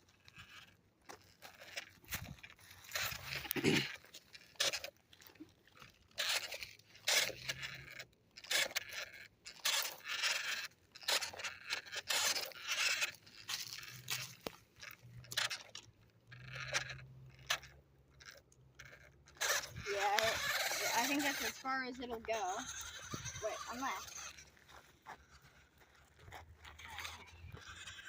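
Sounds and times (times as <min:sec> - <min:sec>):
crunching over dry dirt and grass: 0:00.0 - 0:28.0.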